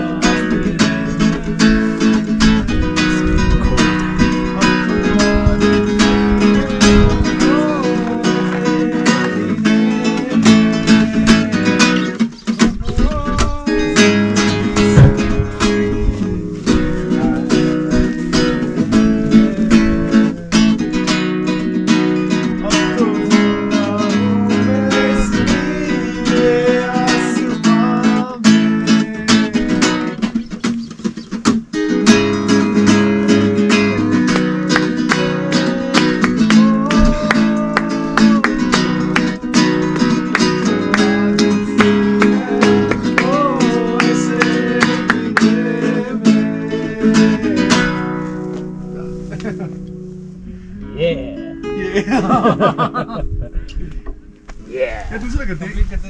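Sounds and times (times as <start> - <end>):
acoustic guitar strummed and picked: 0.0 - 54.7.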